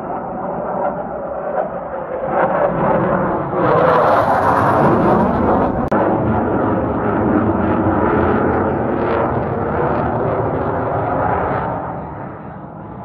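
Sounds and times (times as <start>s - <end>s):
fighter jet engines roaring: 0.0s - 13.0s.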